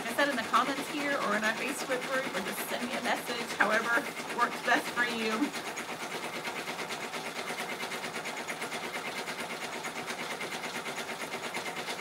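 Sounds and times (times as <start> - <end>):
embroidery machine clattering: 0.0 - 12.0.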